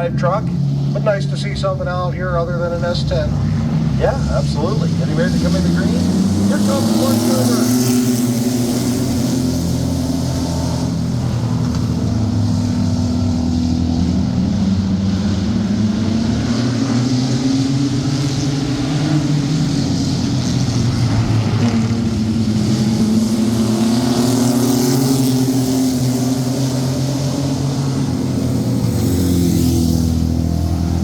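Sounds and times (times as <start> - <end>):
racing truck engines: 0.0 - 31.0.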